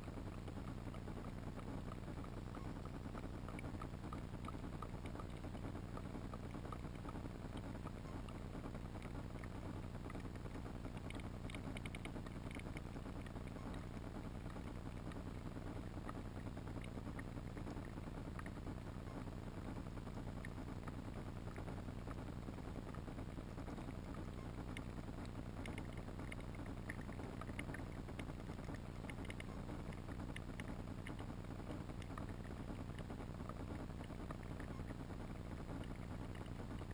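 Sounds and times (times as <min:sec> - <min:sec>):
faint underwater clicks: 0:00.0 - 0:36.9
underwater low rumble and hiss: 0:00.0 - 0:36.9.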